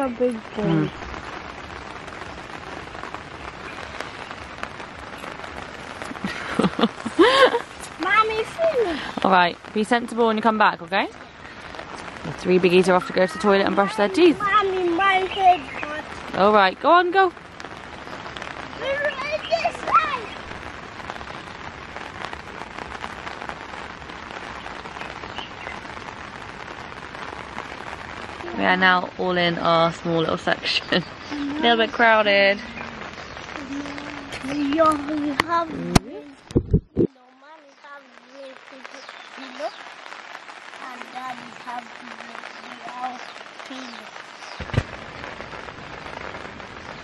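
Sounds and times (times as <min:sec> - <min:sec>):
faint raindrop ticks: 0:00.0 - 0:47.0
light rain hissing: 0:00.0 - 0:47.0.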